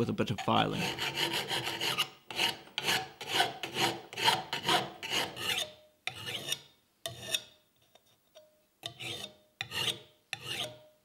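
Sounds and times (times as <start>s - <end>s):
file scraping sheet metal: 0.0s - 7.5s, 8.9s - 10.9s.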